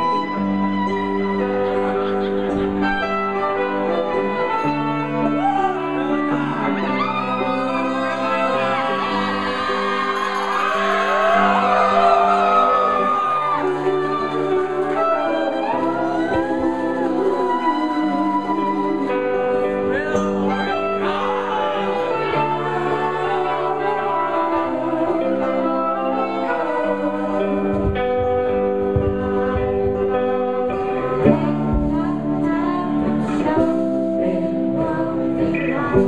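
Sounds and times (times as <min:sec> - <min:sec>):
electric guitar long notes: 0:00.0 - 0:36.0
people singing: 0:00.0 - 0:36.0.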